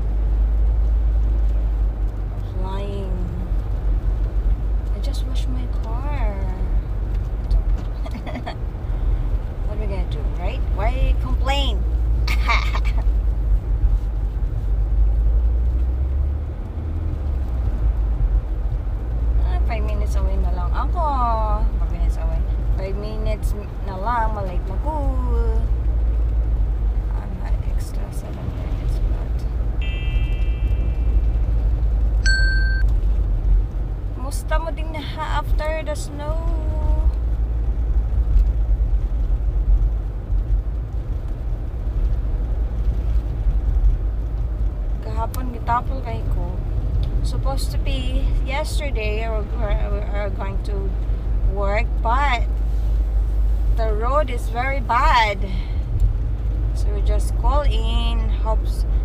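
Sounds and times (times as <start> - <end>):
tyre and road noise: 0.0 - 59.0.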